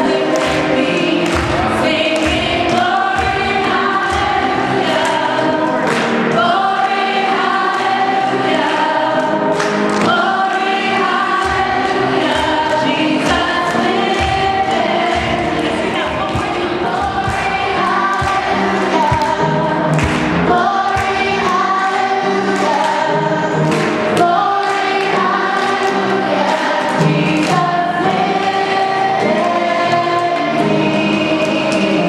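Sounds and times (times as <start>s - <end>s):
choir singing with accompaniment: 0.0s - 32.0s.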